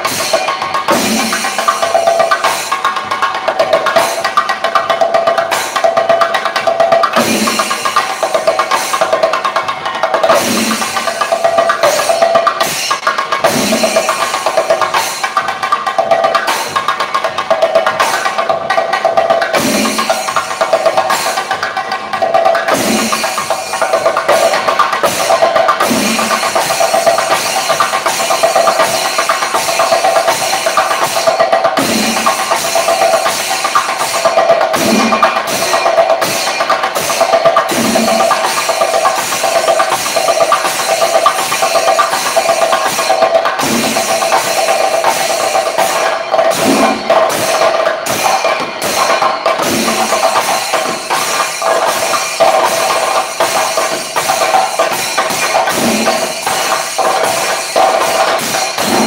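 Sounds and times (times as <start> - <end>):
drums beaten with sticks: 0.0 - 59.0.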